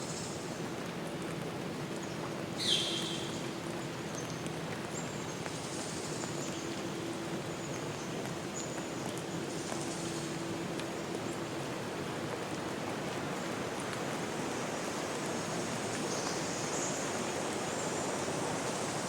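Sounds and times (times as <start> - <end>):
steady rushing water: 0.0 - 19.0.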